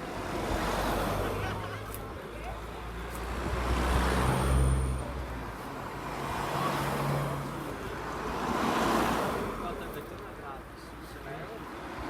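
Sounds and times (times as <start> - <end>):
vehicles passing by: 0.0 - 12.0
wind and road noise: 0.0 - 12.0.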